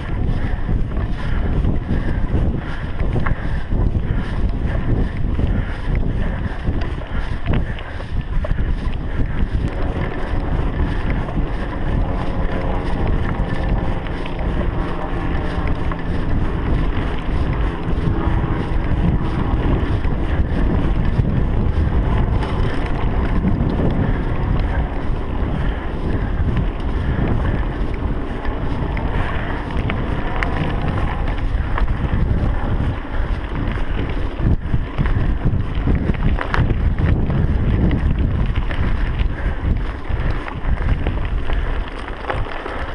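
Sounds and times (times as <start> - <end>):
bike tyres rumbling on dirt: 0.0 - 42.9
wind buffeting microphone: 0.0 - 42.9.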